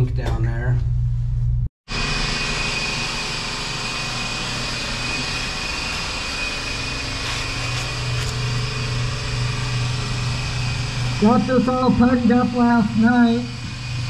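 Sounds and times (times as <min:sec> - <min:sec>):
machine whining and humming: 0:00.8 - 0:14.0.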